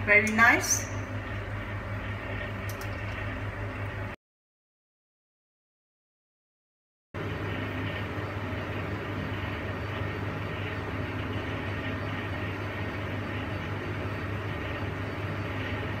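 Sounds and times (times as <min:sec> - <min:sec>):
steady mechanical hum: 0:00.0 - 0:04.2, 0:07.2 - 0:16.0.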